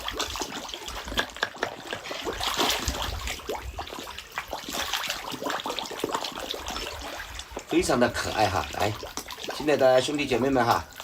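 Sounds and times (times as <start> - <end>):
fish splashing at surface: 0.0 - 11.0
water trickling: 0.0 - 11.0.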